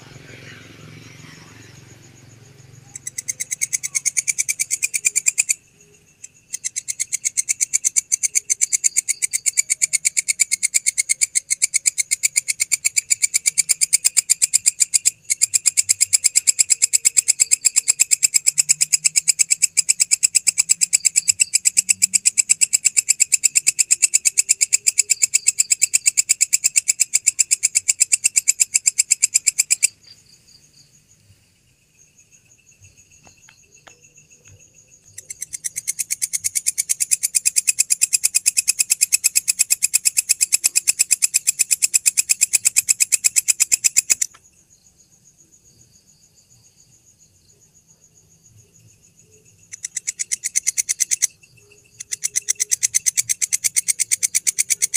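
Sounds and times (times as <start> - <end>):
faint chirping insects: 0.0 - 54.9.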